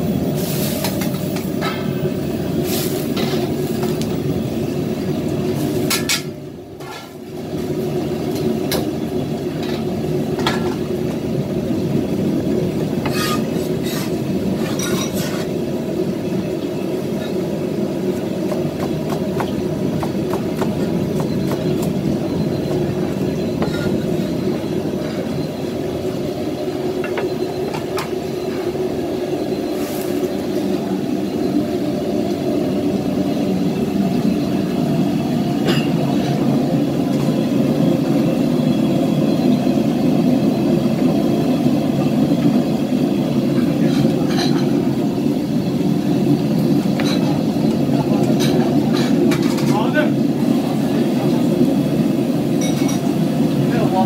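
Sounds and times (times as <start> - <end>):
gas burner roaring: 0.0 - 54.0.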